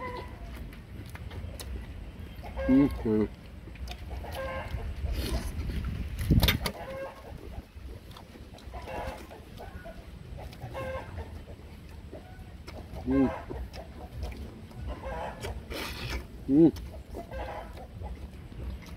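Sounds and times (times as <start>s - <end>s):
chickens clucking: 0.0s - 18.9s
close eating noise: 0.0s - 18.9s.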